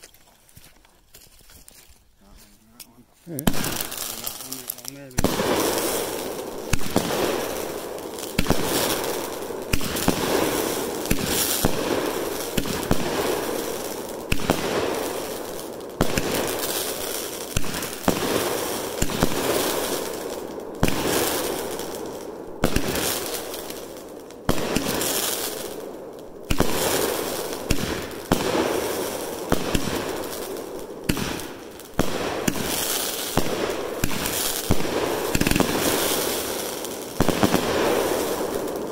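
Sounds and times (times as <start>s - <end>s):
firework shots banging: 2.8s - 38.9s.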